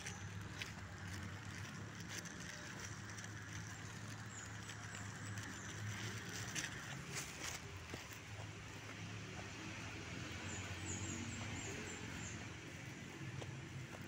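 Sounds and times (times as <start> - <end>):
footsteps on concrete: 0.0 - 14.0.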